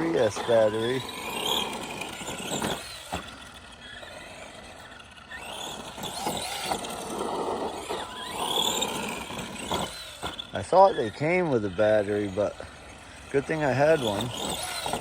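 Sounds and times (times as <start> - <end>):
rc truck motor whining: 0.0 - 15.0.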